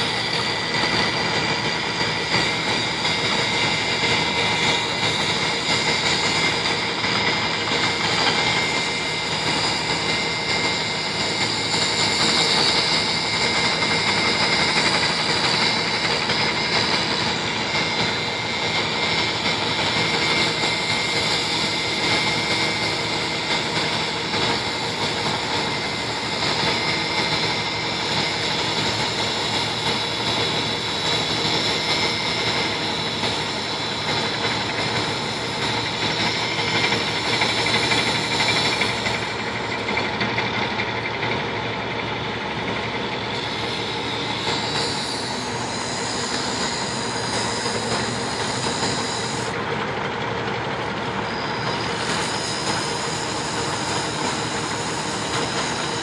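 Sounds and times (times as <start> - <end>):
diesel engines running: 0.0 - 56.0
excavator working: 0.0 - 56.0.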